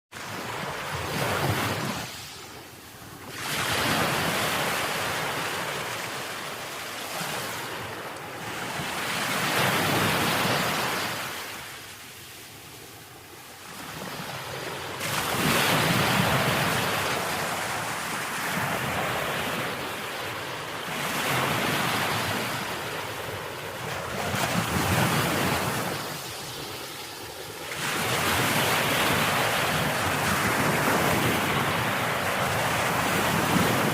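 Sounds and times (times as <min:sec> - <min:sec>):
ocean waves breaking: 0:00.2 - 0:33.9.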